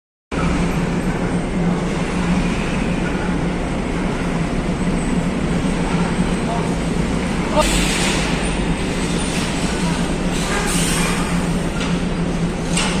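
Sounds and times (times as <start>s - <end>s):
engines rumbling: 0.3s - 13.0s.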